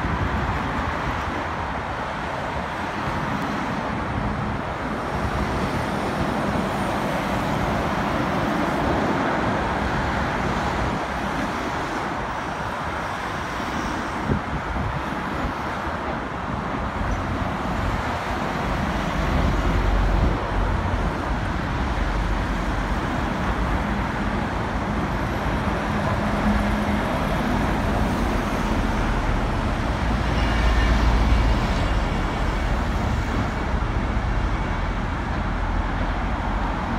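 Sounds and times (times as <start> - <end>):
continuous tyre noise: 0.0 - 36.9.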